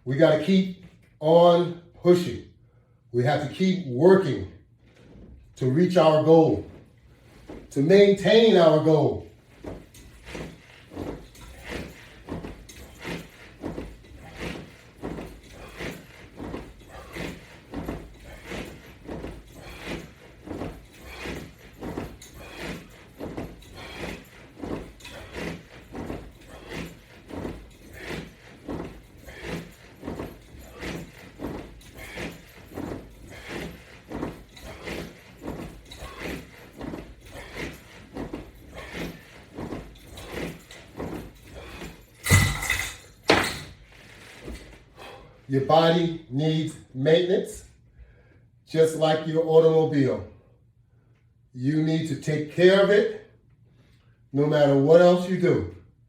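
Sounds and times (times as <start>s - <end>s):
resistance band exercise strokes: 0.0s - 56.0s.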